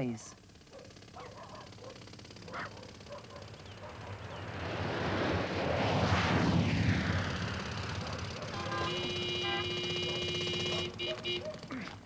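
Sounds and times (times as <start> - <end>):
aircraft flying low overhead: 0.2 - 12.0.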